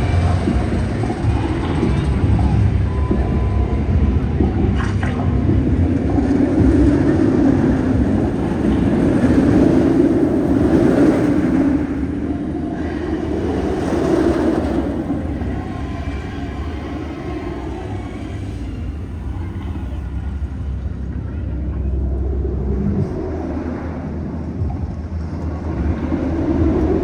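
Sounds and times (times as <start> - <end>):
roller coaster rumbling on track: 0.0 - 27.0.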